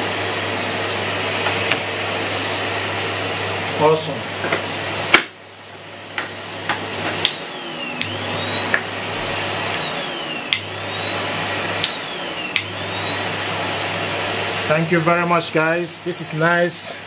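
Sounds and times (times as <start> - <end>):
high motor whine: 0.0 - 17.0
vacuum cleaner running: 0.0 - 17.0.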